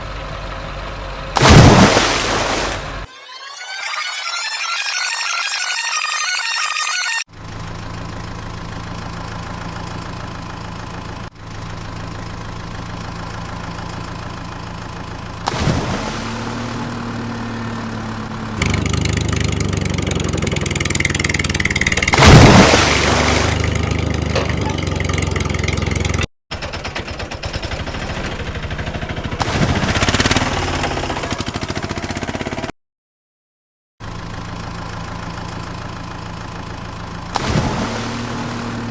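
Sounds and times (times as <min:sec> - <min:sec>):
vehicle engines running: 0:00.0 - 0:03.1, 0:07.3 - 0:32.7, 0:34.0 - 0:38.9.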